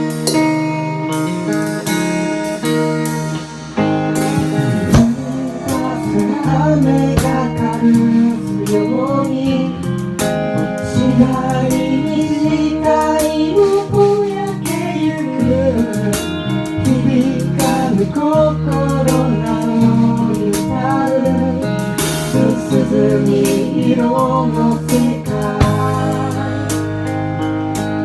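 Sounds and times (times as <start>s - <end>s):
guitar accompaniment: 0.0s - 28.0s
wavering lead melody: 0.4s - 28.0s.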